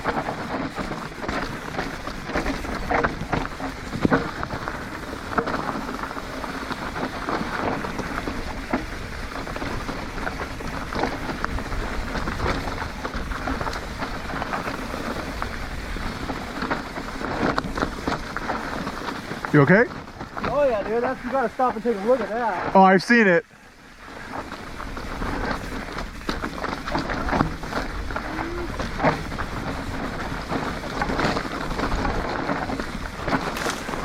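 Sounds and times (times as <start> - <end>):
bike knocking and rattling: 0.0 - 34.0
tyres crunching over gravel: 0.0 - 34.0.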